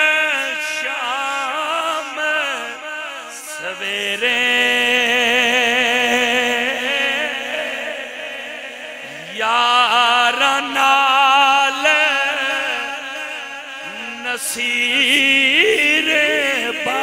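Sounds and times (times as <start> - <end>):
man singing into microphone: 0.0 - 17.0.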